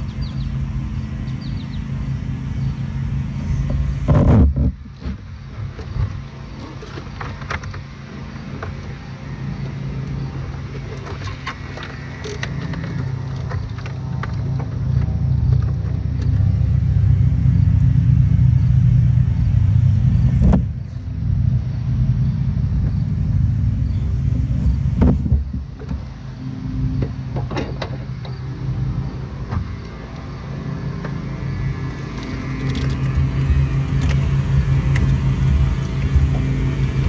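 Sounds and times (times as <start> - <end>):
low motor rumble: 0.0 - 37.0.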